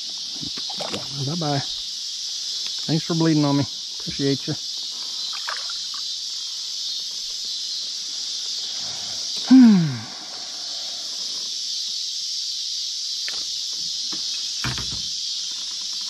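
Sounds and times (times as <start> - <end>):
night crickets chirping: 0.0 - 16.0.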